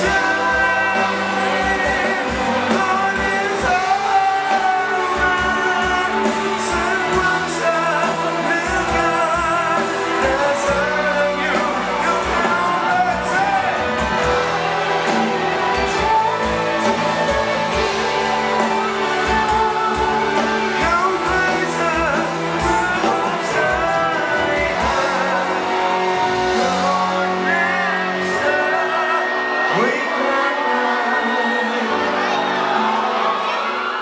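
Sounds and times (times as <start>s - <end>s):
drums with steady beat: 0.0s - 28.6s
bass guitar: 0.0s - 29.0s
man singing into microphone: 0.0s - 32.5s.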